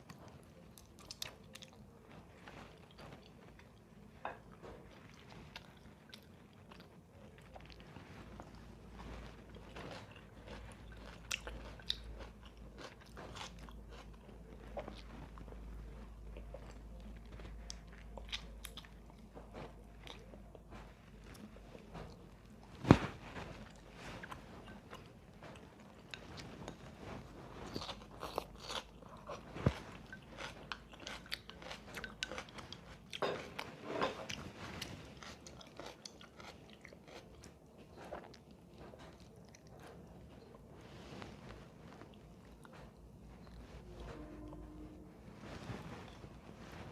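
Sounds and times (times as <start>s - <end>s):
person chewing and crunching food: 0.0s - 44.8s, 45.4s - 46.9s.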